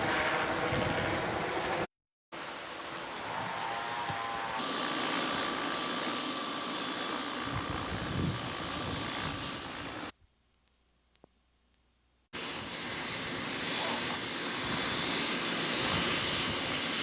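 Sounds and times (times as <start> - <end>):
helicopter rotor and engine: 0.0 - 3.2, 4.2 - 10.2, 12.4 - 17.0.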